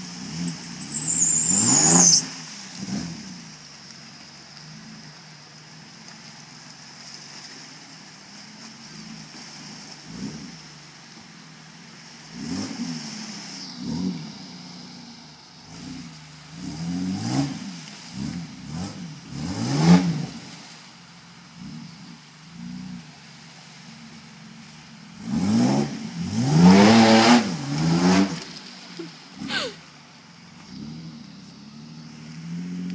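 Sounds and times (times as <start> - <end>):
car engine revving: 0.0 - 6.4, 8.8 - 32.9.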